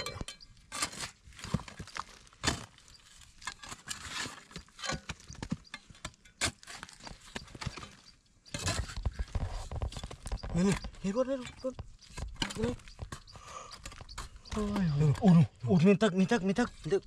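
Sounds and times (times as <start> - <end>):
hoe striking dry mud: 0.0 - 15.2.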